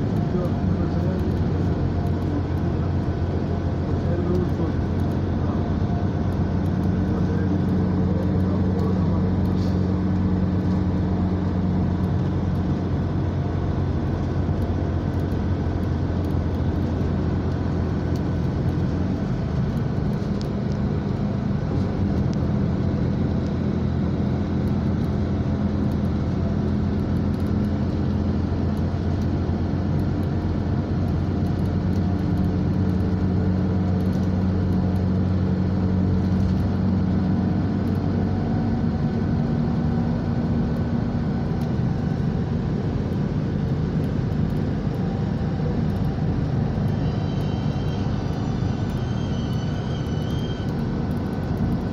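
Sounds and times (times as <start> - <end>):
engine hum inside vehicle: 0.0 - 51.9.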